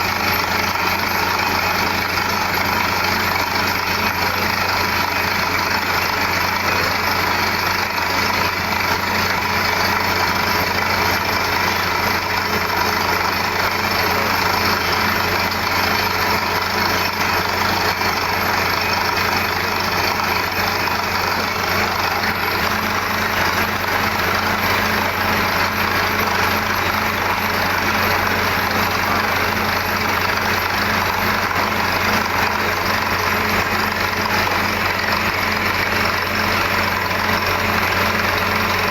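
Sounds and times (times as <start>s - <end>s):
drilling rig engine running: 0.0s - 38.9s.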